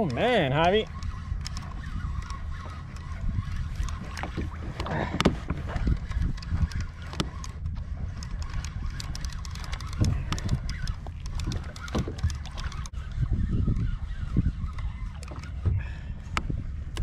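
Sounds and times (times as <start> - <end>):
waves lapping against a hull: 0.0 - 17.0
wind rumbling on microphone: 0.0 - 17.0.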